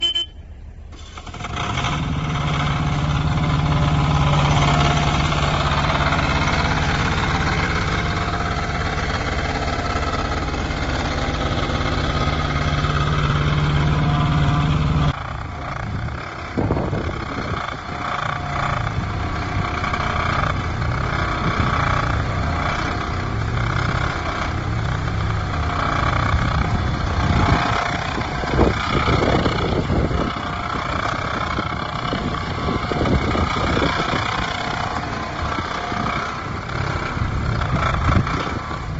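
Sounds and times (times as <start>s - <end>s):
excavator engine droning: 0.0s - 38.9s.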